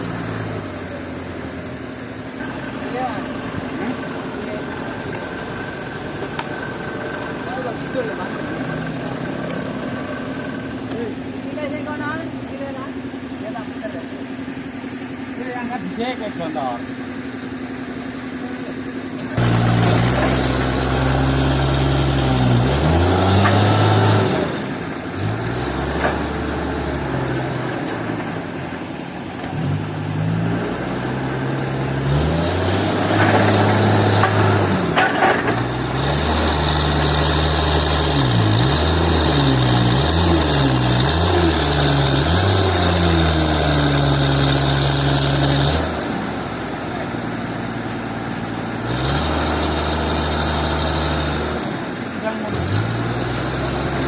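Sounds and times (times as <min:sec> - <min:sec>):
engine revving: 0:00.0 - 0:14.2, 0:18.3 - 0:54.0.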